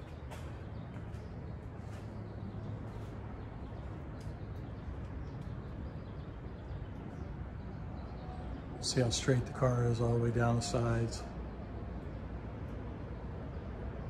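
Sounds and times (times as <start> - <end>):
low building hum: 0.0 - 14.0.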